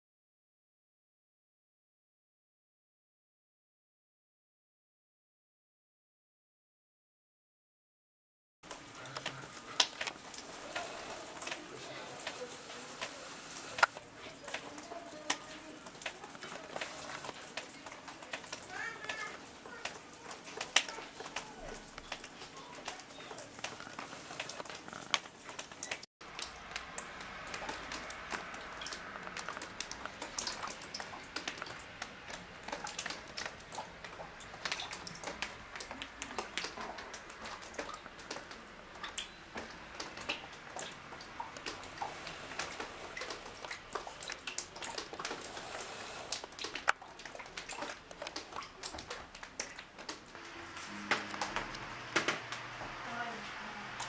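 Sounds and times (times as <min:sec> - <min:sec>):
rainwater dripping and splashing: 0:08.6 - 0:54.0.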